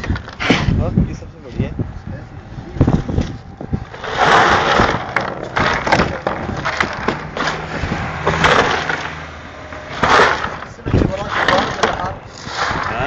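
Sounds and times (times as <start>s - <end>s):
knocks and handling clatter: 0.0s - 0.8s, 2.9s - 13.0s.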